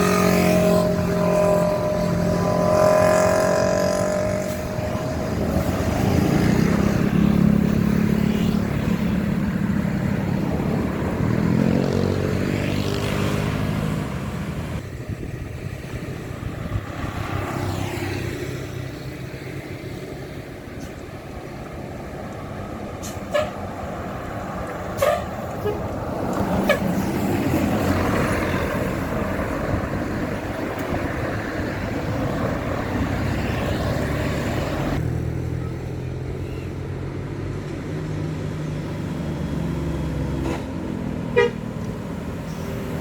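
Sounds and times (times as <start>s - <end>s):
heavy vehicle engines passing: 0.0s - 43.0s.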